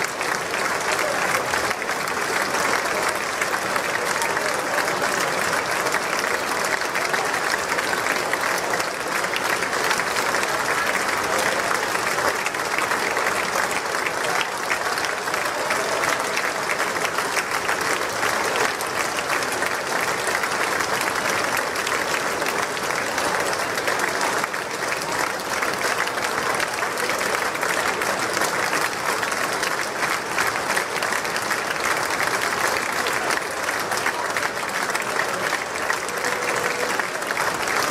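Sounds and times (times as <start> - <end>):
large crowd applauding: 0.0 - 37.9.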